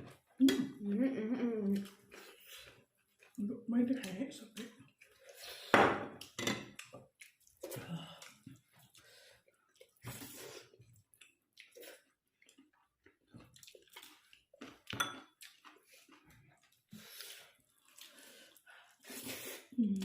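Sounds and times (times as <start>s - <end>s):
person chewing and slurping: 1.6s - 3.4s, 4.6s - 19.8s.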